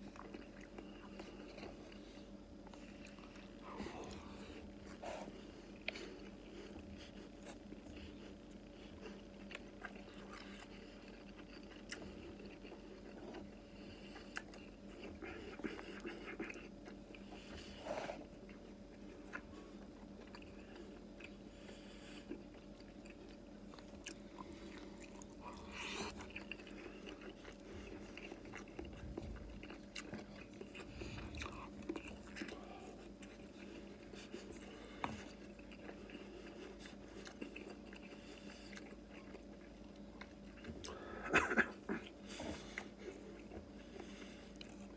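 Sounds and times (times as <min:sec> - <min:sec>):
faint steady hum: 0:00.0 - 0:44.9
person chewing: 0:00.0 - 0:44.9.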